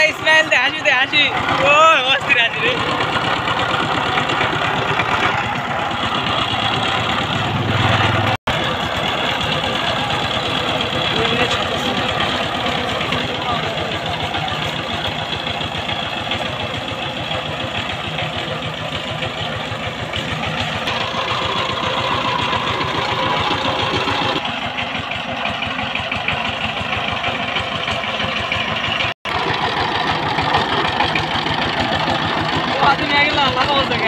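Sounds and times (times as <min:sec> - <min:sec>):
diesel engine chugging: 0:00.0 - 0:34.0.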